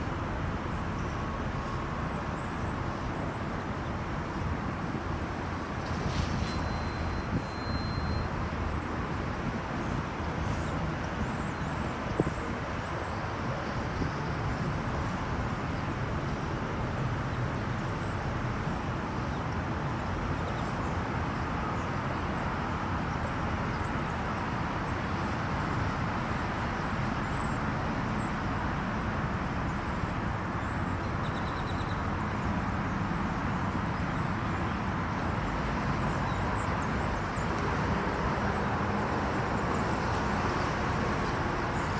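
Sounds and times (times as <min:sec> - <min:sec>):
traffic rumble: 0:00.0 - 0:41.9.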